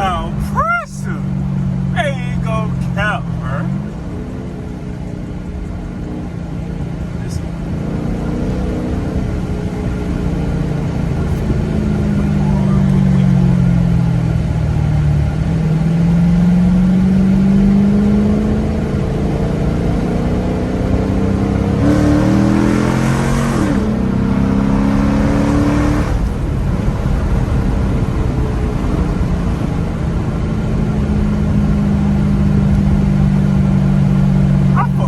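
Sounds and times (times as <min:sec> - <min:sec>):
car engine droning while driving: 0:00.0 - 0:35.0.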